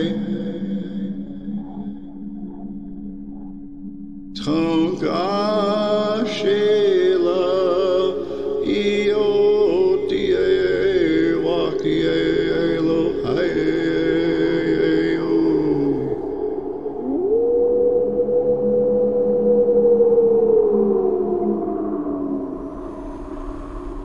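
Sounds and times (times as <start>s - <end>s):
person chanting: 0.0s - 2.8s, 4.4s - 24.0s
low musical drone: 0.0s - 24.0s.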